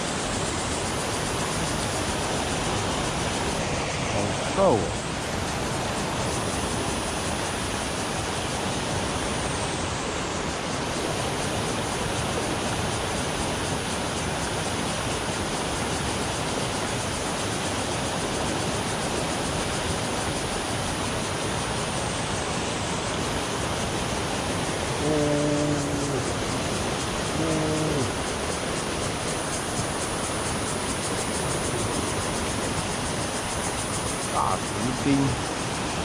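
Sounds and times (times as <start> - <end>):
water rushing over a weir: 0.0 - 36.0.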